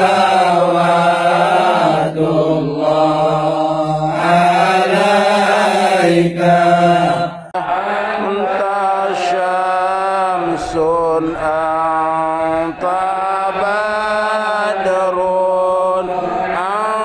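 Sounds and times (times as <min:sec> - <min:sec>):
voices chanting: 0:00.0 - 0:17.0.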